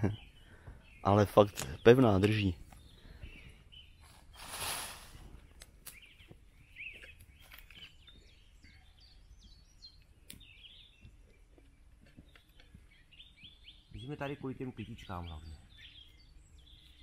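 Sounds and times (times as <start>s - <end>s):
small birds chirping and singing: 0.0s - 17.0s.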